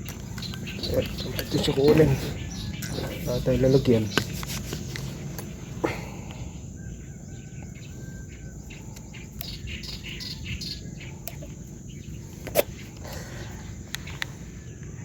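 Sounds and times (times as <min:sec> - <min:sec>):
high chirps and ticks: 0:00.0 - 0:15.0.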